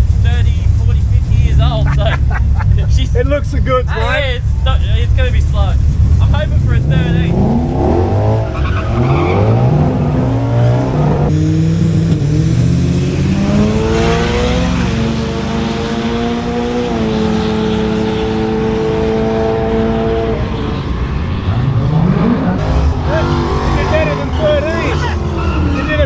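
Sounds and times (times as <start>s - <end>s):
engine revving: 0.0s - 26.0s
racing engine accelerating: 0.0s - 26.0s.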